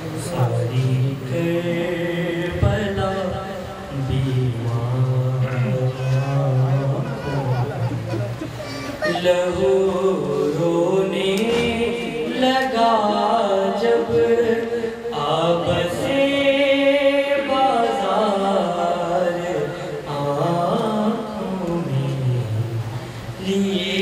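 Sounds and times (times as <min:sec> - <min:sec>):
man chanting a lament: 0:00.0 - 0:07.9, 0:09.0 - 0:24.0.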